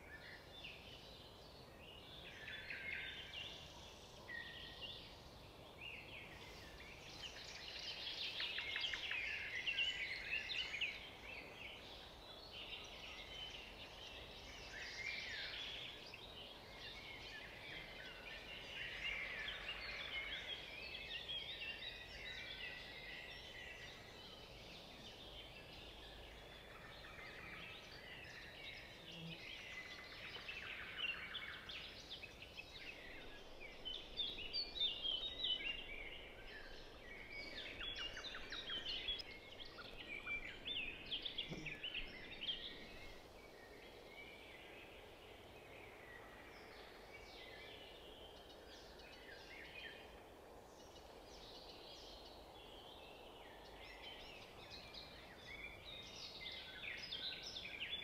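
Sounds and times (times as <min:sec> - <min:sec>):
low steady hiss: 0:00.0 - 0:58.0
songbirds twittering: 0:00.0 - 0:58.0.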